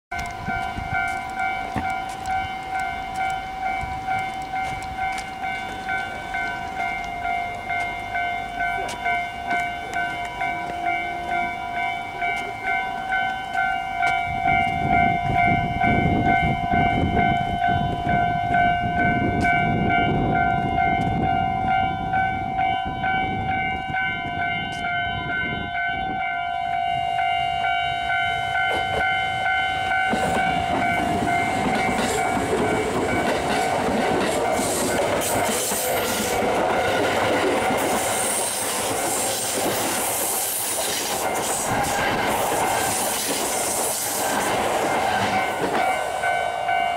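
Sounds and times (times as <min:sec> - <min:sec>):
level crossing warning bell: 0:00.1 - 0:46.9
train rumbling past: 0:00.1 - 0:46.9.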